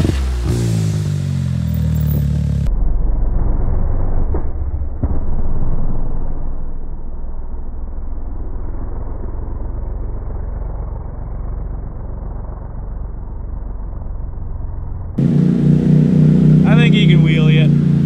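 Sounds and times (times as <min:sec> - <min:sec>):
engine rumbling driving away: 0:00.0 - 0:18.0.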